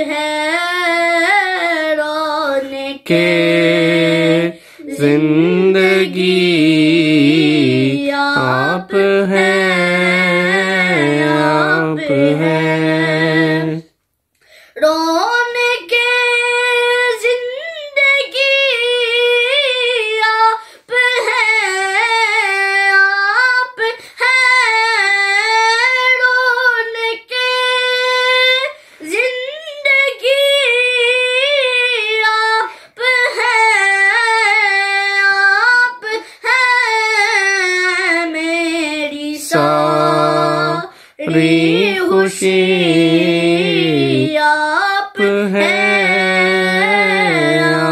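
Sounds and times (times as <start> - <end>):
boy singing unaccompanied: 0.0 - 13.9, 14.7 - 47.9.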